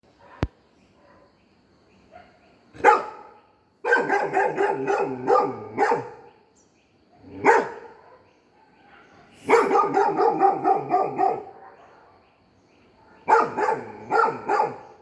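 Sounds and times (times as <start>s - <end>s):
dog barking: 0.2s - 1.3s, 2.1s - 6.3s, 7.1s - 12.3s, 13.0s - 15.0s.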